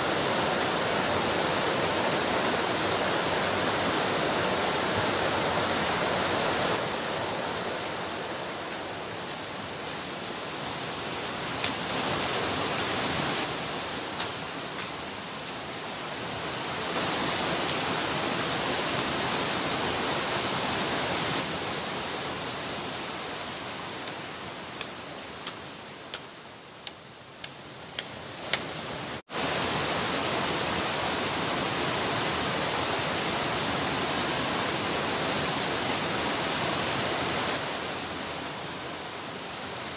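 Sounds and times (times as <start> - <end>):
waterfall and river rapids rushing: 0.0 - 39.9.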